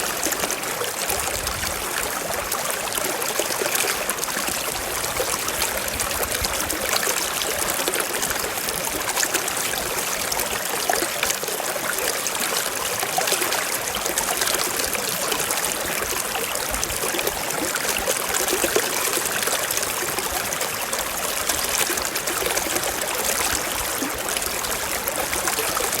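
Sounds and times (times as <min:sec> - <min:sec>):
stream flowing over rocks: 0:00.0 - 0:26.0.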